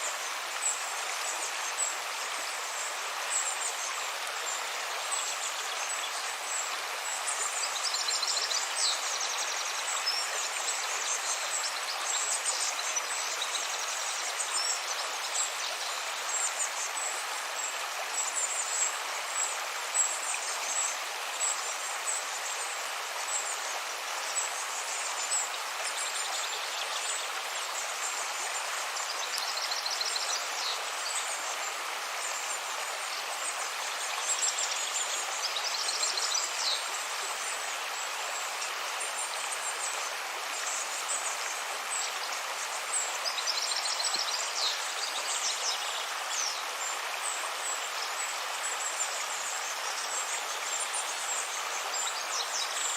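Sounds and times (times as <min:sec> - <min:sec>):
river water flowing: 0:00.0 - 0:52.9.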